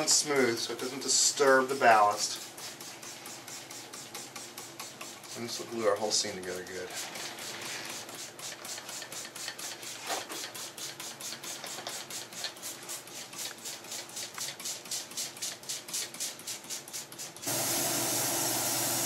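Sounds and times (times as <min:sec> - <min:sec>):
spray bottle hissing mist: 0:00.0 - 0:05.8, 0:06.4 - 0:19.0.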